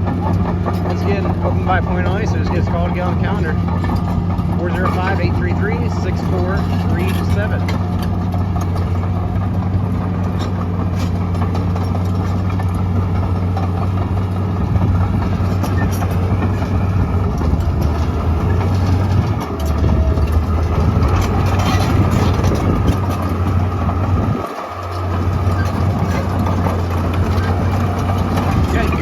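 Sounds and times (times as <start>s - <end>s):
diesel engine running: 0.0s - 29.0s
steel tracks clanking: 0.0s - 29.0s.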